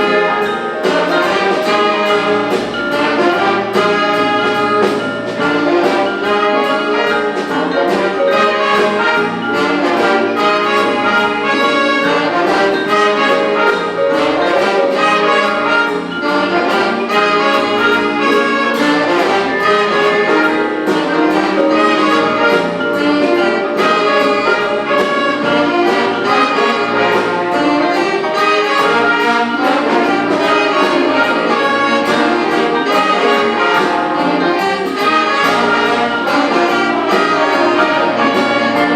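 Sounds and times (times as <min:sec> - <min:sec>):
drums beat: 0:00.0 - 0:38.9
jazz big band brass: 0:00.0 - 0:38.9.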